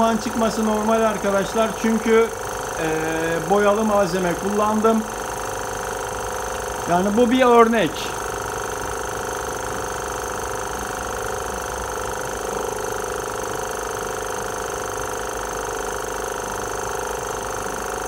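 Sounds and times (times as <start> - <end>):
electric pumps humming: 0.0 - 18.0.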